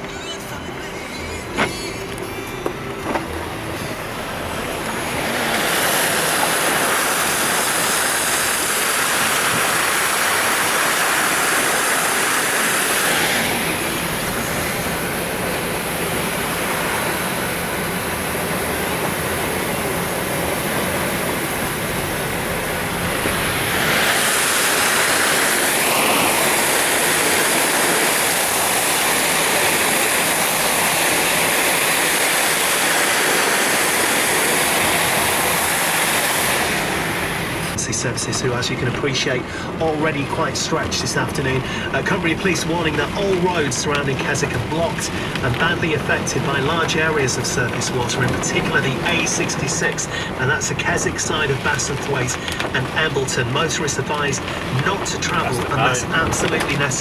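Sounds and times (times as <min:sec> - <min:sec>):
rushing floodwater roar: 0:00.0 - 0:57.0.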